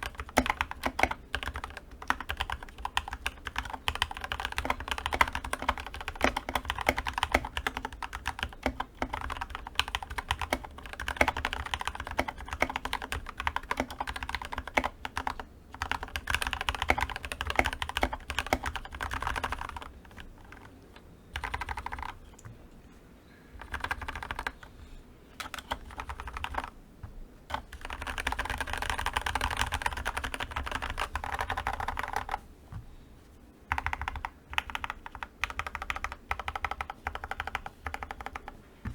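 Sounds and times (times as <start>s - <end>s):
mechanical keyboard typing: 0.0s - 22.5s, 23.6s - 24.7s, 25.4s - 26.8s, 27.5s - 32.4s, 33.7s - 38.5s.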